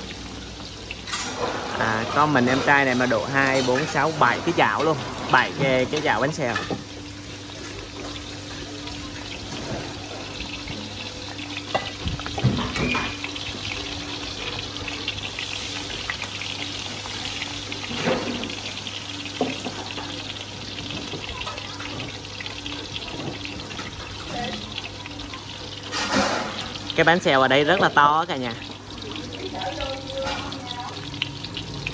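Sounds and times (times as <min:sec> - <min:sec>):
oil sizzling in woks: 0:00.0 - 0:31.9.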